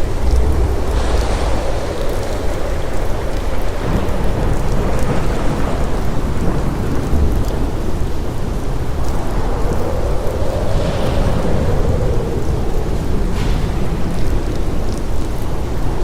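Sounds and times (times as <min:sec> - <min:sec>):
deep low rumble: 0:00.0 - 0:15.9
steady rain falling: 0:00.0 - 0:16.0.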